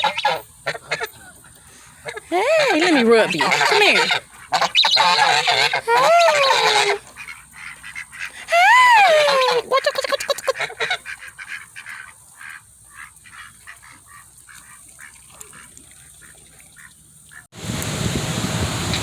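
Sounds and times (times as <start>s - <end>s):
ducks and geese calling: 0.0s - 17.5s
wind: 0.0s - 19.0s.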